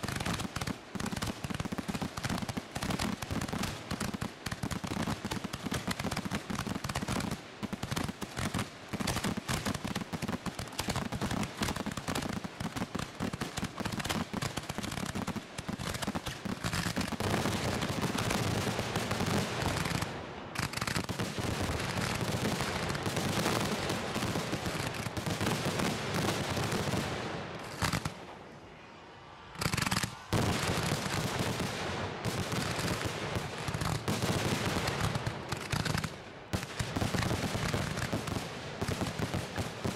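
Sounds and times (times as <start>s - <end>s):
fireworks bangs and crackles: 0.0s - 28.8s, 29.6s - 39.9s.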